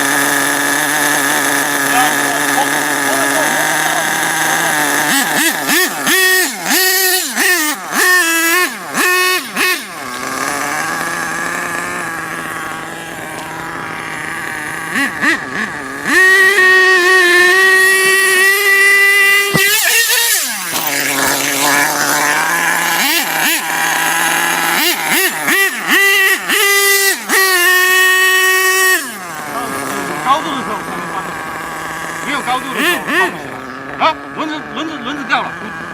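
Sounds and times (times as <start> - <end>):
toy car motor revving: 0.0 - 35.9.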